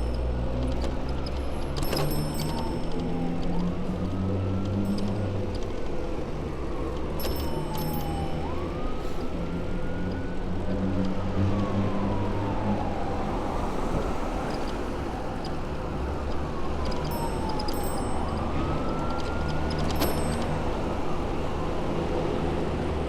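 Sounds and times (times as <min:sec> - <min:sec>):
city traffic rumble: 0:00.0 - 0:23.0
siren wailing: 0:02.4 - 0:22.5.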